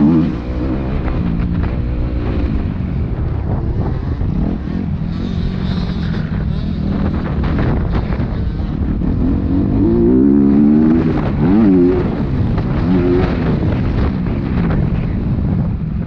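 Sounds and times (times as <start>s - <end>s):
dirt bike engine revving: 0.0s - 2.7s, 3.8s - 14.1s.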